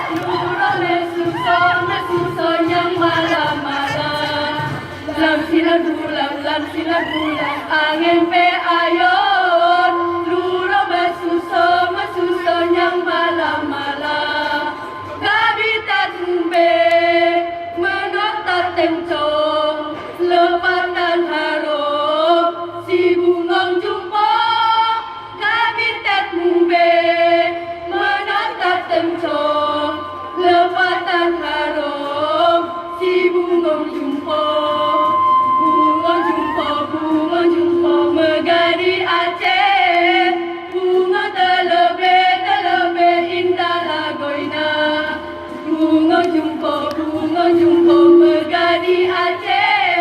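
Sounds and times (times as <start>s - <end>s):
choir singing in harmony: 0.0s - 50.0s.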